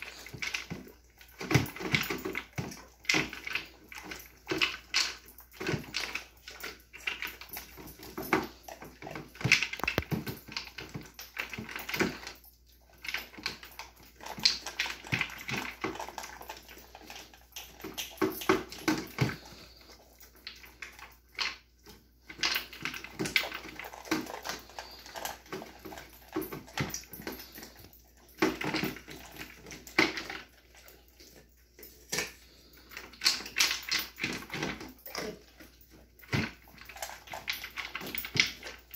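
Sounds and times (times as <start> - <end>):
dog chewing: 0.0 - 38.9
food clattering in bowl: 0.0 - 38.9.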